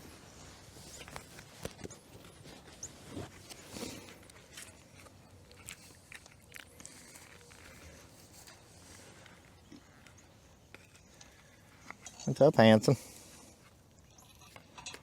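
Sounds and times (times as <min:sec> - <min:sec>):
cattle chewing grass: 0:00.0 - 0:12.2.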